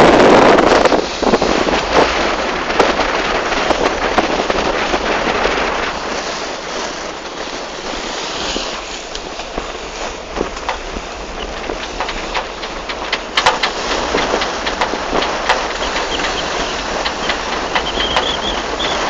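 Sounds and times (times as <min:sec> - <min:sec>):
water splashing against boat hull: 0:00.0 - 0:19.0
wind buffeting microphone: 0:00.0 - 0:19.0.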